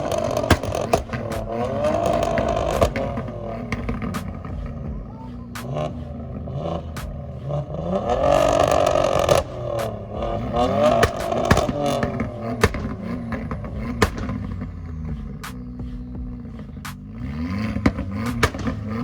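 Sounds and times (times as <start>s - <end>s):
car engine revving: 0.0s - 19.0s
exhaust pops and bangs: 0.0s - 19.0s.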